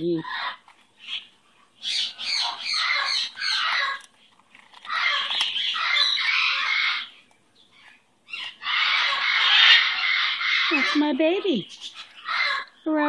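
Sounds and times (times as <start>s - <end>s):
parrot squawking harshly: 0.2s - 4.0s, 4.9s - 7.2s, 8.3s - 12.8s.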